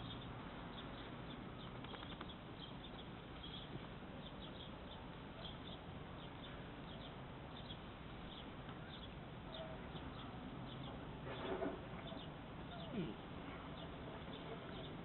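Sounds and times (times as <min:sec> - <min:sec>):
small birds chirping: 0:00.0 - 0:15.0
steady outdoor hiss: 0:00.0 - 0:15.0.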